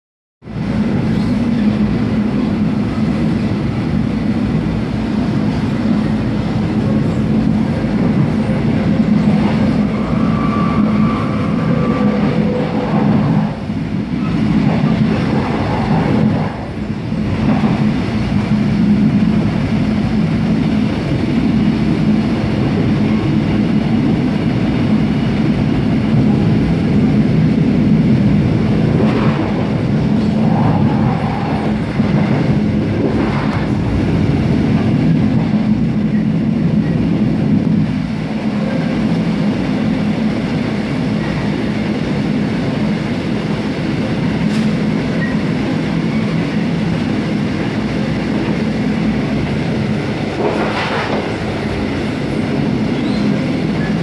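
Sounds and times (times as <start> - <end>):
train wheels rumbling on rails: 0.4 - 54.0.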